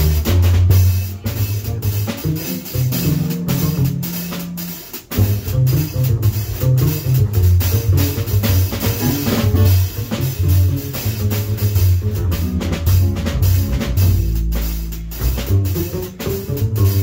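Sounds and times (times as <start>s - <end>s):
drums on cymbals: 0.0s - 17.0s
walking double bass: 0.0s - 17.0s.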